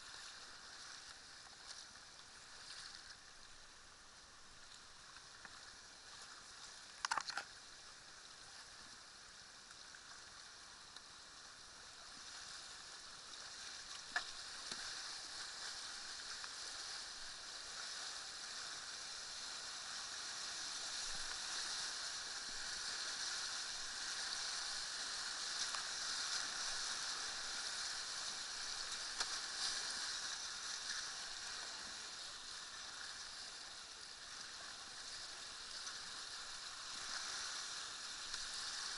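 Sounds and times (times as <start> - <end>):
rapids rushing and splashing: 0.0 - 38.9.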